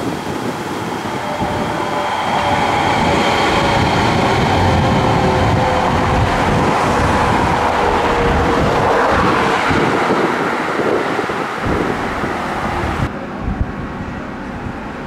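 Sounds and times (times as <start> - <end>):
street noise: 0.0 - 15.0
tram motor whine: 0.0 - 15.0
tram wheels rumbling on rails: 0.0 - 15.0.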